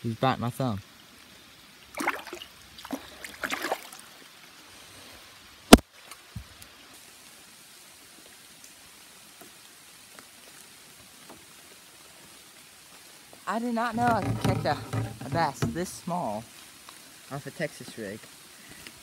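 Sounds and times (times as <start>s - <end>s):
rain falling on pond: 0.0s - 19.0s
water splashing and trickling: 0.0s - 19.0s.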